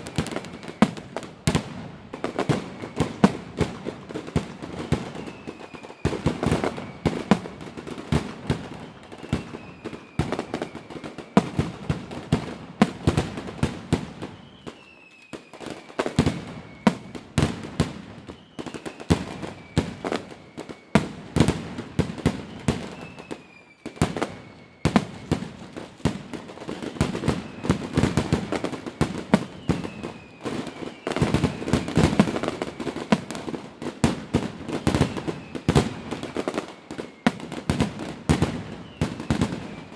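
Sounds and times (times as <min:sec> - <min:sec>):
falling firework whistles: 0:00.0 - 0:39.9
fireworks bangs and pops: 0:00.0 - 0:39.9.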